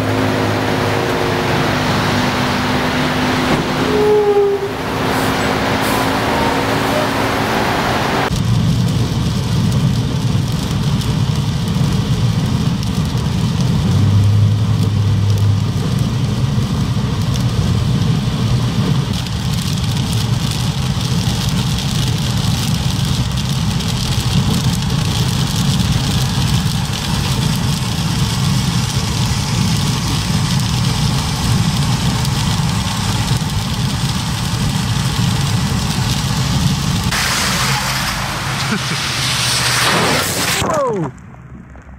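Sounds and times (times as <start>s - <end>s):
car engine and road rumble: 0.0s - 41.9s
rain and tyre spray hiss: 0.0s - 41.9s.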